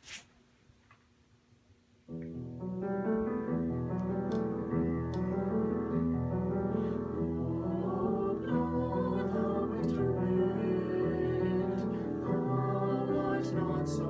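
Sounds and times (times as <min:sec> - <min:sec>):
piano playing sustained chords: 0:02.2 - 0:14.0.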